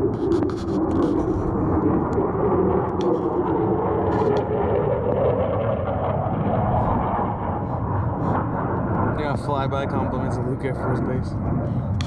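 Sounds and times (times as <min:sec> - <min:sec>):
jet flying overhead: 0:00.0 - 0:12.0.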